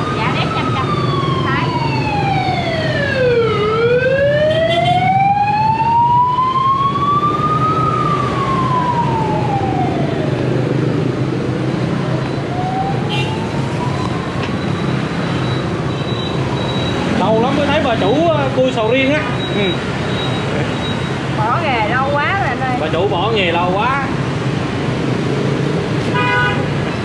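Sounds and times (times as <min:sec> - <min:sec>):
emergency siren wailing: 0:00.0 - 0:23.9.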